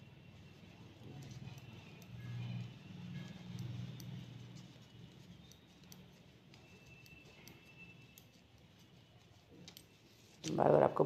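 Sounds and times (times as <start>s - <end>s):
low background hum: 0.0s - 11.0s
metal knitting needles clicking: 0.6s - 10.6s.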